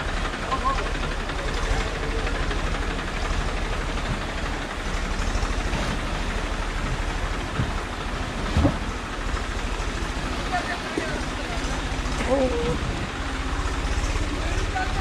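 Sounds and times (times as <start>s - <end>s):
van engine running: 0.0s - 15.0s
water rushing: 0.0s - 15.0s.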